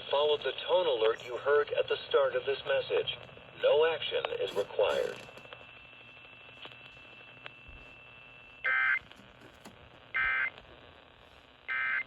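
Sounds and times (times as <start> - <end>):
faint radio hiss: 0.0 - 12.0.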